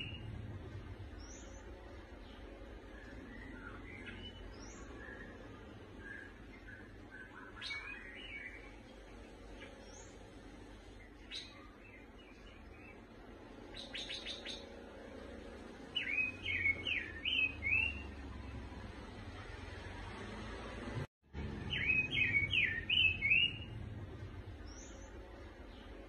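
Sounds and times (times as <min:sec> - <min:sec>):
caged bird chirping: 0:00.0 - 0:26.0.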